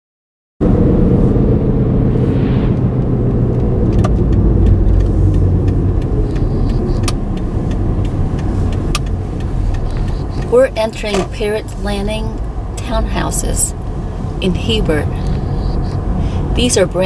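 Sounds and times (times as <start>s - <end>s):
car engine and tyre drone: 0.6s - 17.0s.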